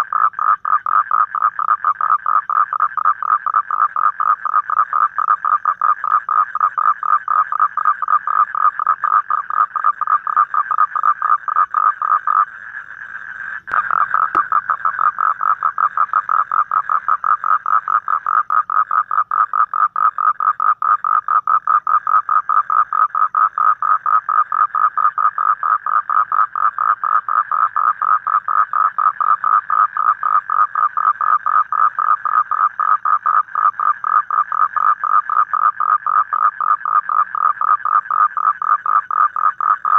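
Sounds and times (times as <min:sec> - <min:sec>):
toad calling in rapid pulses: 0:00.0 - 0:39.9.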